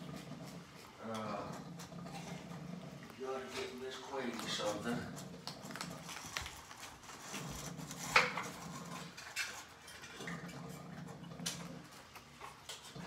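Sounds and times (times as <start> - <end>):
cats chewing and lapping: 0.0 - 13.0.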